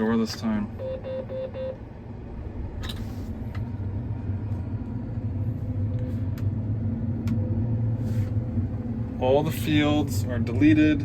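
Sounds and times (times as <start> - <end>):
combine engine rumbling: 0.0 - 11.0.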